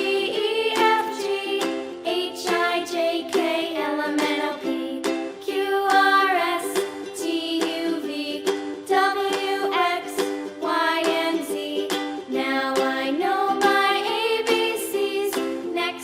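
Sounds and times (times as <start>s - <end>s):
plucked ukulele music: 0.0s - 16.0s.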